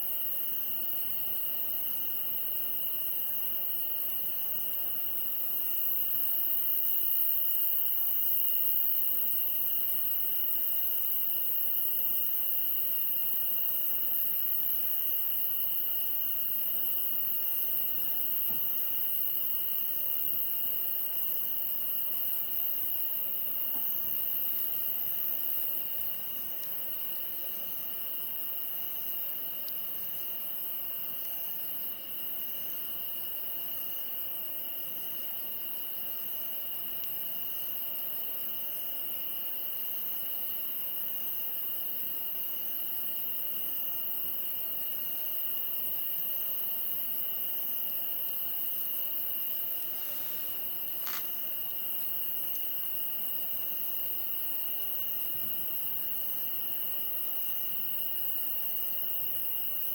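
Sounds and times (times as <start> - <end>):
insect chirping: 0.0 - 59.9
insects trilling: 0.0 - 59.9.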